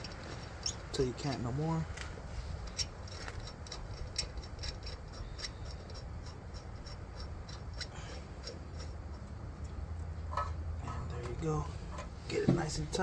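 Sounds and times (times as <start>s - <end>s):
light metallic ticking: 0.0s - 13.0s.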